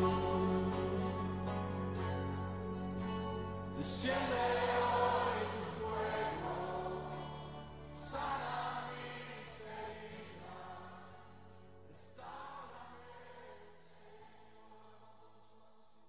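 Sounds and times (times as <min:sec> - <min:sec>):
voices singing worship song: 0:00.0 - 0:16.0.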